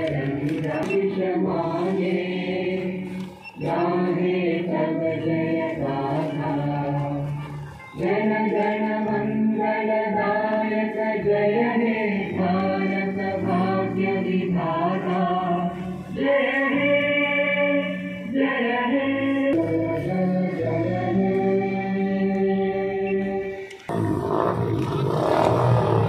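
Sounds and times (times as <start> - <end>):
choir singing held notes: 0.0 - 26.0.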